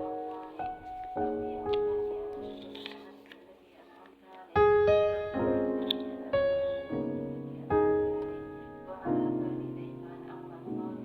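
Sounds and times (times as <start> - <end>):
slow piano music: 0.0 - 3.8, 4.4 - 11.0.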